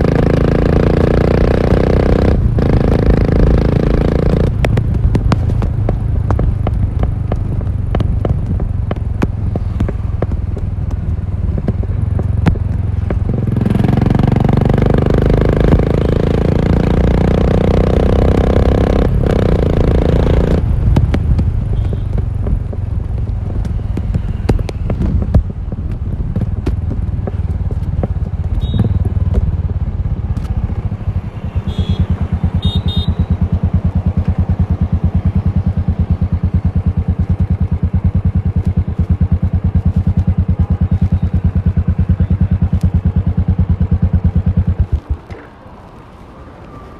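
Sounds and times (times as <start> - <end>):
motorcycle engine running: 0.0 - 45.4.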